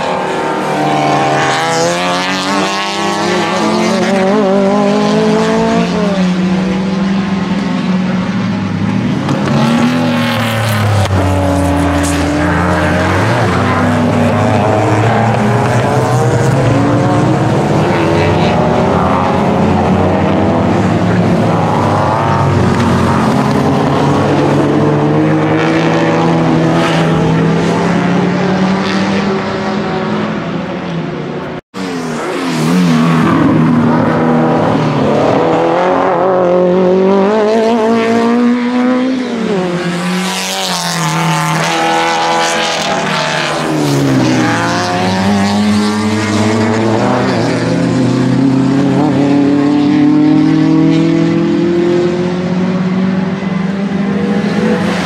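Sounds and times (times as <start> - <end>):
racing car engines revving: 0.0 - 55.0.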